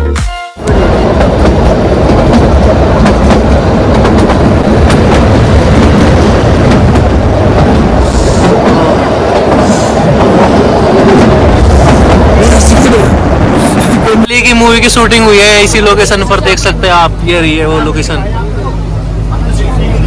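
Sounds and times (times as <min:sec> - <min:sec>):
train coach rumble: 0:00.6 - 0:20.0.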